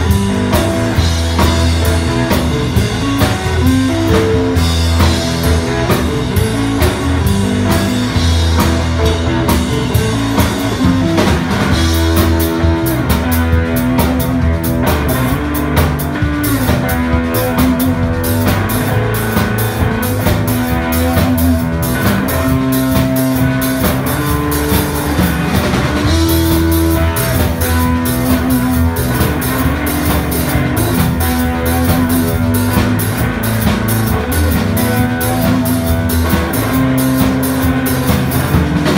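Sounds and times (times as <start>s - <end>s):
drum kit: 0.0s - 38.9s
electric bass: 0.0s - 38.9s
electric guitars with held notes: 0.0s - 38.9s.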